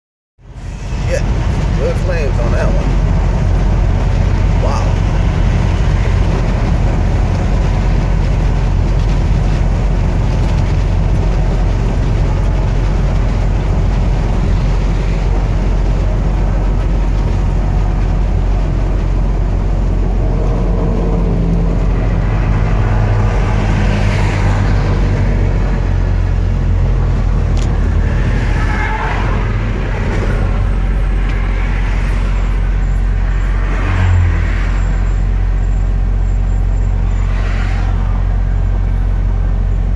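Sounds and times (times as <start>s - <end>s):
road noise in cab: 0.4s - 39.9s
truck engine drone: 0.4s - 39.9s
louder rumble: 0.6s - 35.4s.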